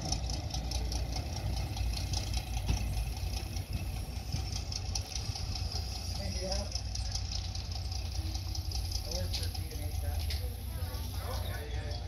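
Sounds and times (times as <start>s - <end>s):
train engine rumble: 0.0s - 12.0s.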